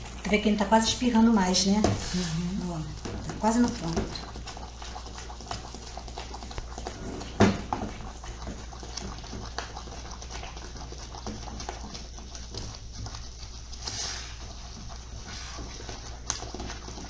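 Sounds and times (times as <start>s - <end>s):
thick mixture bubbling: 0.0s - 17.0s.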